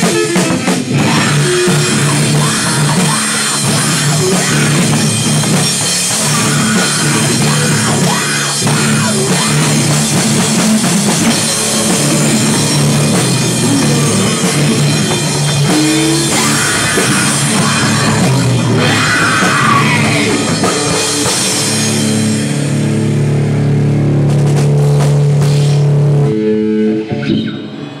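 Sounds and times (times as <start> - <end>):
bass guitar: 0.0 - 28.0
distorted electric guitars: 0.0 - 28.0
drum kit: 0.0 - 28.0.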